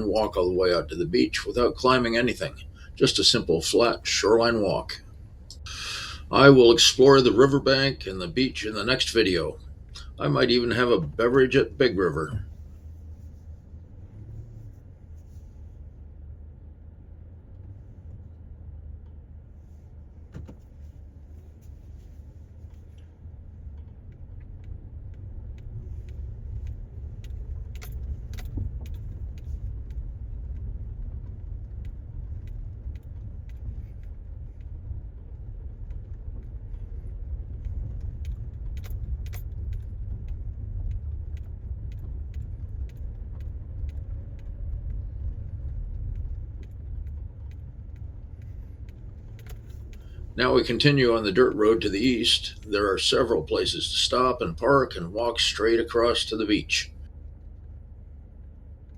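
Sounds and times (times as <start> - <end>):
car rumbling on dirt road: 0.0 - 58.9.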